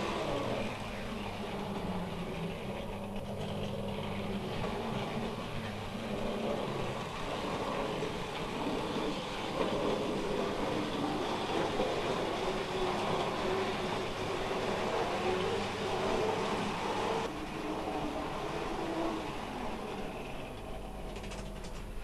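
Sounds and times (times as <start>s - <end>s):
model train motors whirring: 0.0s - 22.0s
wheels rattling over rails: 0.0s - 22.0s.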